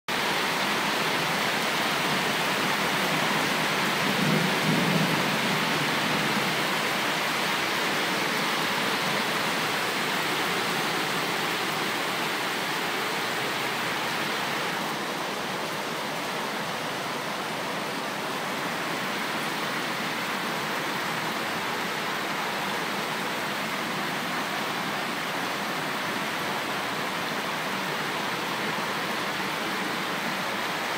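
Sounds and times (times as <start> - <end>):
heavy rain pouring: 0.1 - 30.9.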